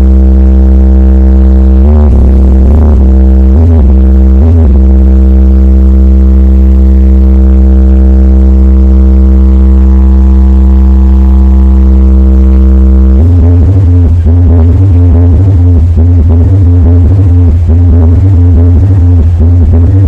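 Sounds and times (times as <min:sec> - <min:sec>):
heavy bass electronic music: 0:00.0 - 0:20.0.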